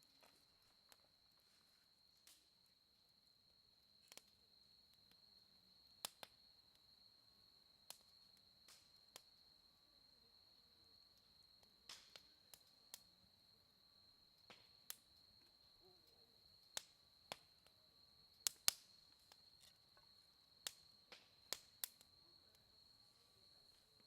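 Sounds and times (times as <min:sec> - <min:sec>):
campfire crackling and popping: 0:02.0 - 0:24.0.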